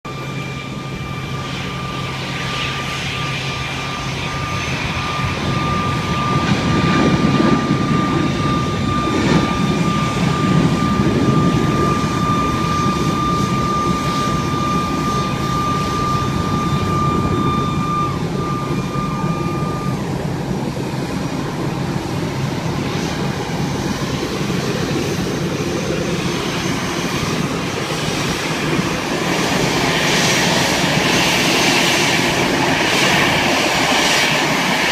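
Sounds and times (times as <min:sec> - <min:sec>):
jet engines running: 0:00.0 - 0:34.9
high even whine: 0:00.1 - 0:34.9.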